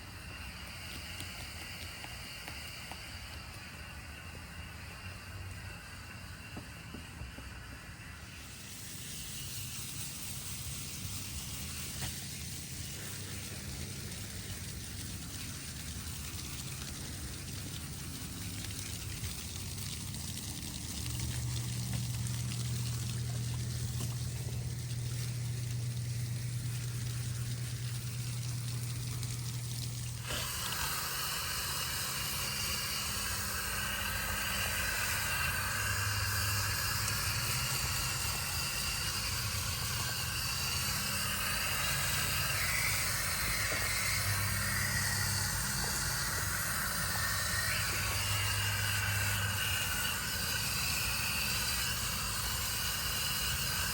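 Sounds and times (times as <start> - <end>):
hose spraying water: 0.0 - 53.9
low steady hum: 0.0 - 53.9.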